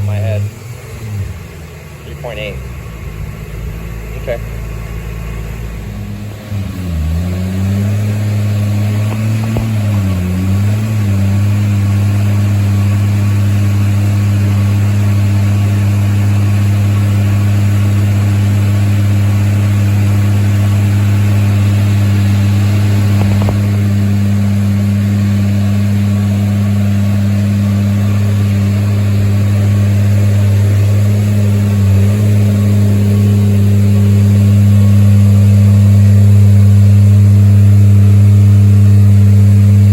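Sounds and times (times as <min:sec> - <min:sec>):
car engine revving on dyno: 0:00.0 - 0:39.9.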